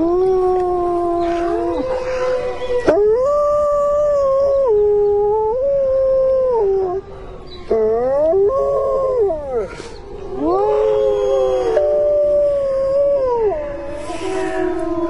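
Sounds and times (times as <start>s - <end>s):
wolves howling: 0.0s - 15.0s.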